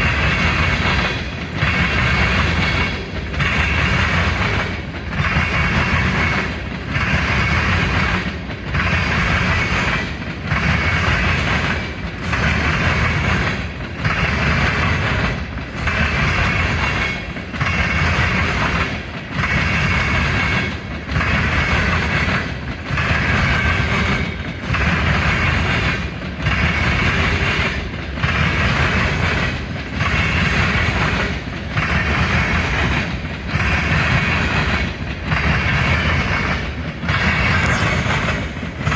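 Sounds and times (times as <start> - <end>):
train rolling past: 0.0 - 38.9.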